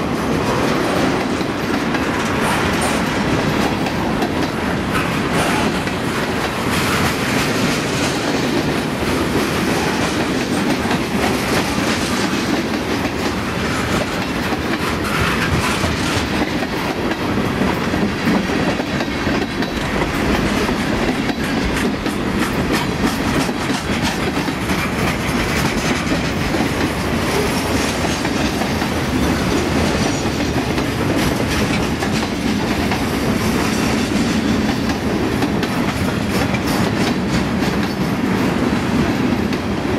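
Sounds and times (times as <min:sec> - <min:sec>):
steel wheels rumbling on rail: 0:00.0 - 0:39.9
wheels clicking over rail joints: 0:00.5 - 0:38.1.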